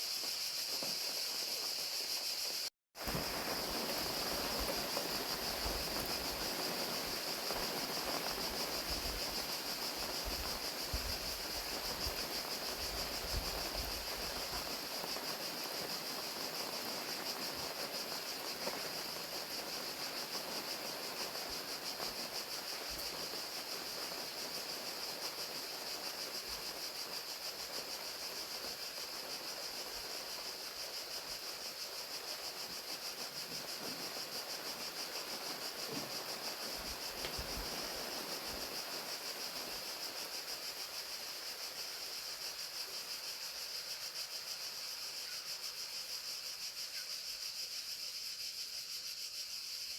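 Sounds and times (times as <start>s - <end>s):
crickets chirping: 0.0s - 49.9s
rain hiss: 0.0s - 49.9s.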